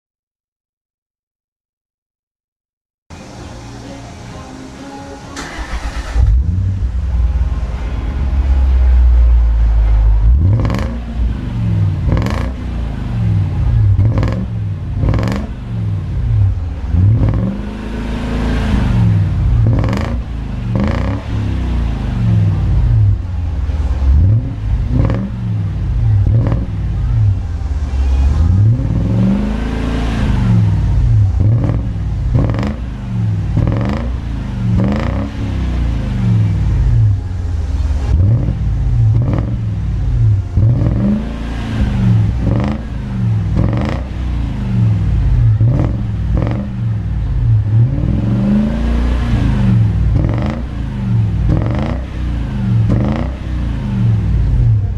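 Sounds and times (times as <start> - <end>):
car engine revving: 5.4 - 54.9.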